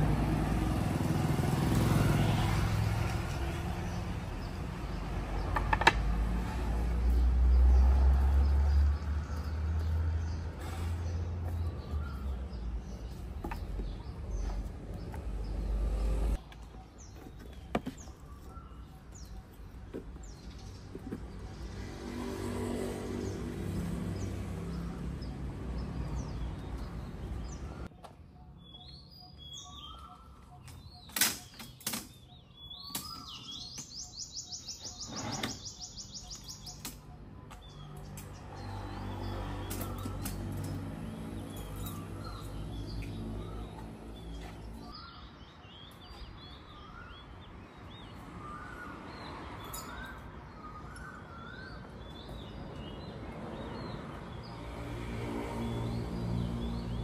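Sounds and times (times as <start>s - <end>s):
birds chirping: 0.0s - 57.0s
street ambience: 0.0s - 57.0s.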